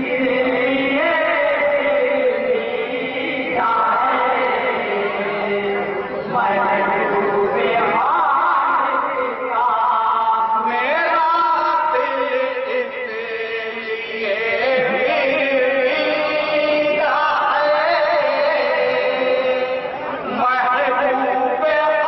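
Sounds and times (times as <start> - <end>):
men singing devotional chant: 0.0 - 22.0.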